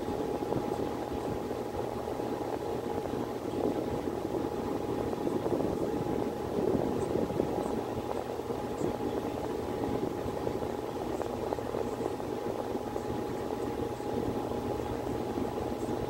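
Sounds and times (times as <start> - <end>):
thin constant whine: 0.0 - 16.0.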